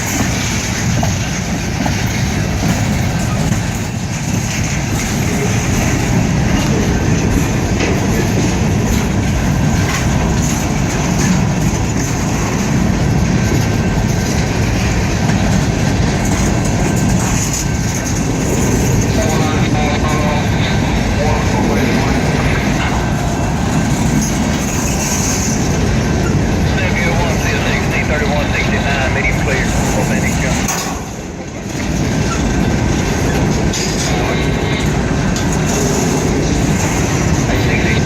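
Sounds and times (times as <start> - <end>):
freight train rumbling past: 0.0 - 38.0.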